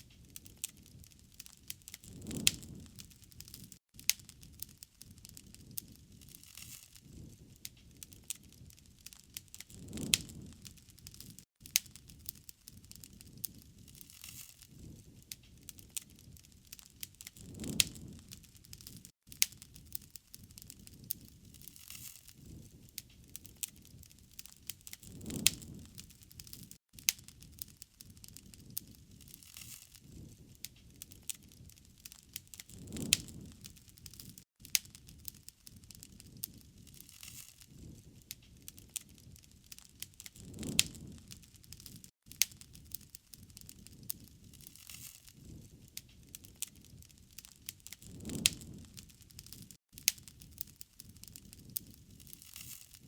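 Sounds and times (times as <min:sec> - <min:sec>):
low rumble of flames: 0:00.0 - 0:53.0
wood fire crackling: 0:00.0 - 0:53.0.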